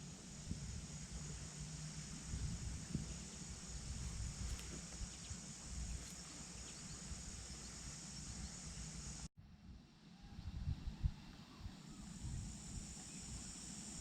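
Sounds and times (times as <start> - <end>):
even hiss with high band: 0.0 - 9.3, 11.3 - 14.0.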